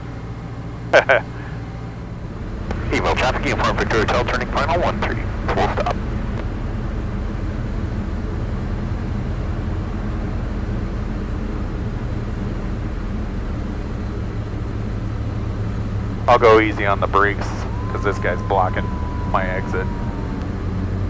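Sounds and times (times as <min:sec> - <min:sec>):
light aircraft engine running: 0:00.0 - 0:21.0.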